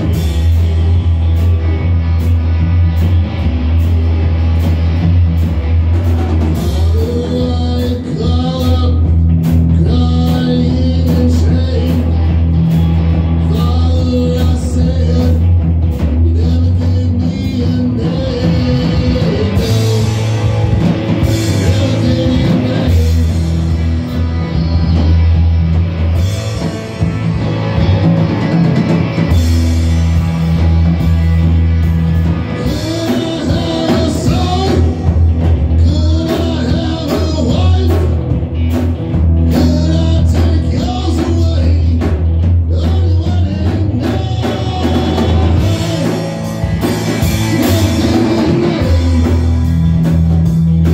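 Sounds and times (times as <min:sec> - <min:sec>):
drum kit: 0:00.0 - 0:50.9
electric bass: 0:00.0 - 0:50.9
electric guitar: 0:00.0 - 0:50.9.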